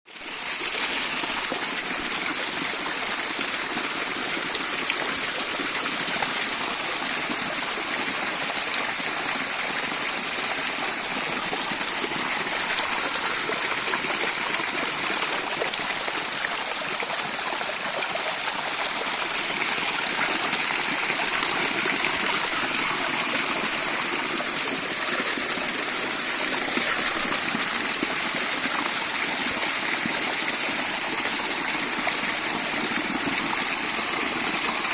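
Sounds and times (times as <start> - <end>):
stream flowing over rocks: 0.1 - 34.9.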